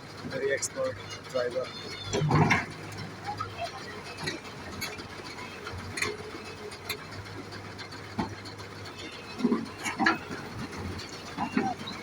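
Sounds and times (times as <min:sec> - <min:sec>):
excavator engine hum: 0:00.0 - 0:12.0
metal clanks and knocks: 0:02.0 - 0:12.0.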